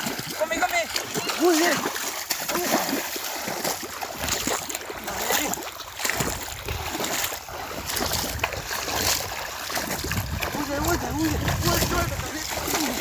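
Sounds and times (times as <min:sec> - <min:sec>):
legs wading through water: 0:00.0 - 0:13.0.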